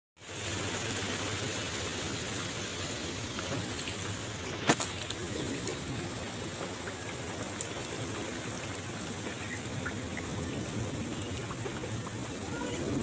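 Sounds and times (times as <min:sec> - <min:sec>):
rain drops plinking in puddles: 0:00.2 - 0:13.0
steady rain hiss: 0:00.2 - 0:13.0.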